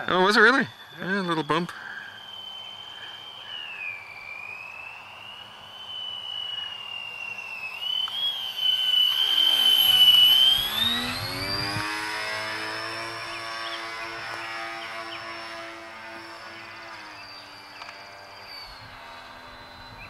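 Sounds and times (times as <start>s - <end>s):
model plane motor whine: 0.0s - 20.0s.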